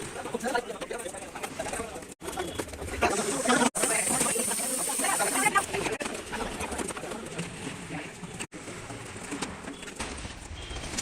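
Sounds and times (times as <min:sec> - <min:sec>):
mixed background noise: 0:00.0 - 0:11.0.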